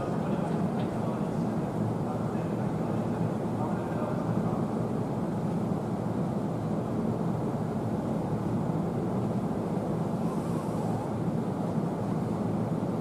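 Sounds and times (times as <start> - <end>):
train rumbling over tracks: 0.0 - 13.0.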